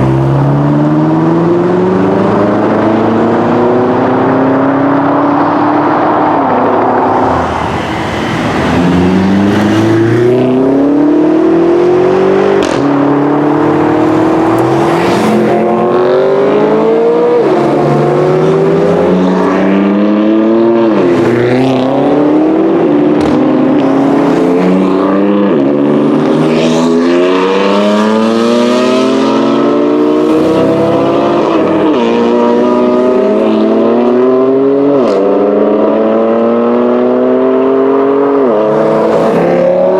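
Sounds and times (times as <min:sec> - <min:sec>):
car engines accelerating through gears: 0:00.0 - 0:39.9.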